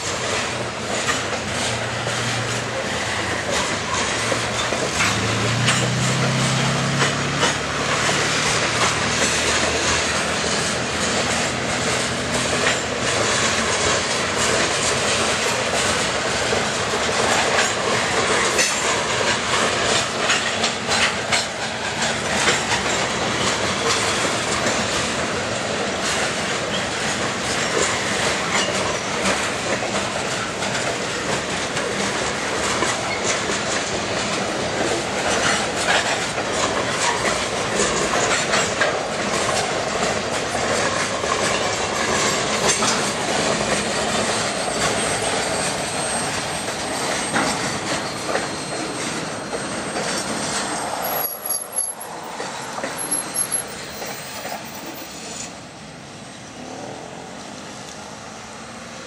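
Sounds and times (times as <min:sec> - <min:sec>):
train wheels clacking over rail joints: 0:00.0 - 0:55.6
freight train rolling noise: 0:00.0 - 0:59.0.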